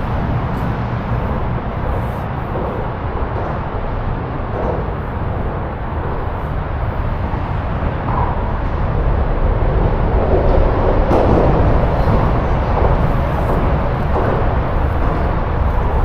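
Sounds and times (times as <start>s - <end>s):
traffic rumbling over bridge: 0.0s - 16.0s.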